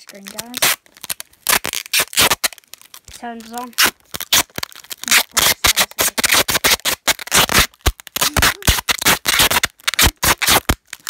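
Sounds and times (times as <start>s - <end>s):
sticky tape ripping: 0.0s - 11.0s.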